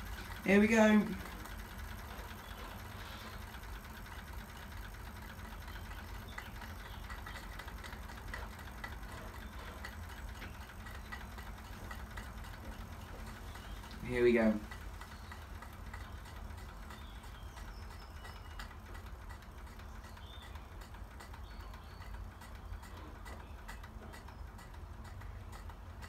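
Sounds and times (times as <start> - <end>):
flywheel ticking: 0.0 - 26.0
toy steam engine running: 0.0 - 26.0.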